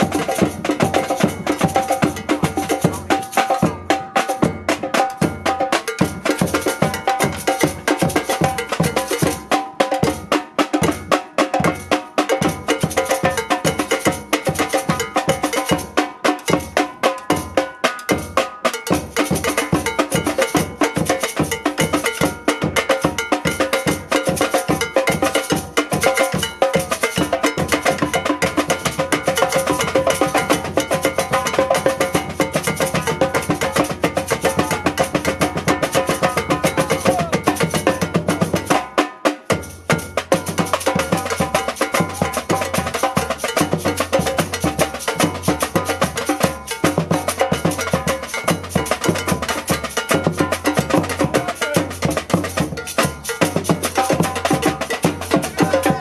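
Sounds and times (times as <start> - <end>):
bells ringing: 0.0 - 9.5, 11.6 - 38.8, 39.5 - 56.0
samba drums: 0.0 - 56.0.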